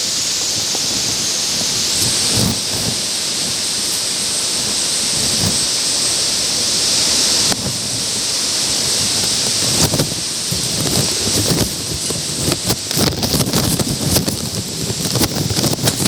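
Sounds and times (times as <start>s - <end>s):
raindrops on plastic sheet: 0.0s - 6.3s, 7.3s - 16.0s
heavy rain and gusting wind: 0.0s - 16.0s.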